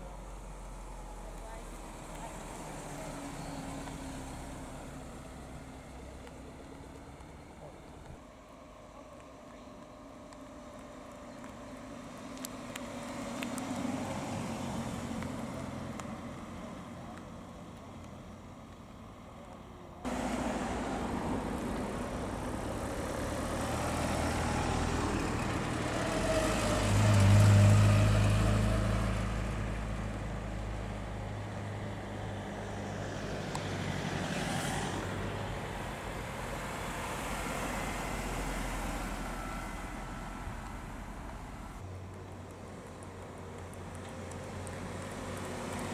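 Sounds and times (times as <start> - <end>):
cars driving slowly past: 0.0 - 45.9.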